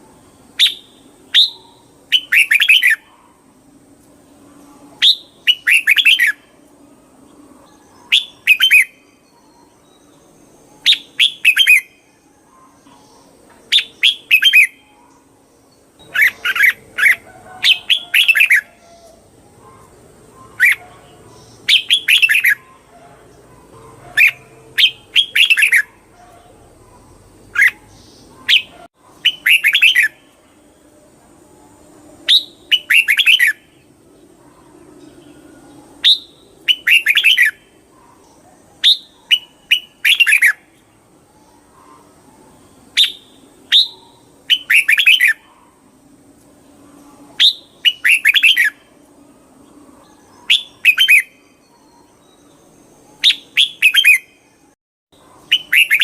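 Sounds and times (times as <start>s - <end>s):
bird chirping: 0.0s - 3.6s, 4.2s - 56.0s.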